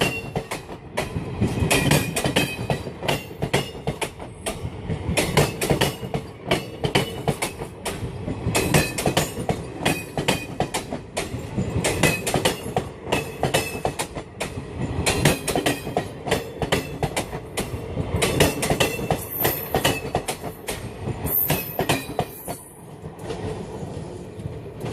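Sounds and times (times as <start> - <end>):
train wheels clattering: 0.0 - 24.9.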